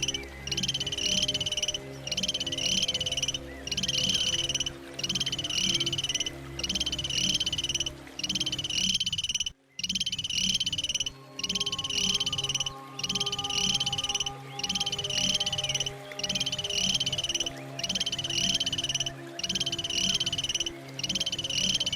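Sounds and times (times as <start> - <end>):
animal buzzing trill: 0.0 - 21.9.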